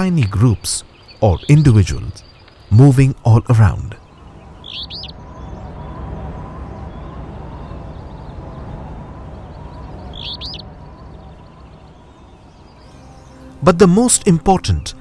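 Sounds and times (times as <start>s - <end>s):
small bird chirping: 0.0s - 14.3s
outdoor background noise: 0.0s - 15.0s.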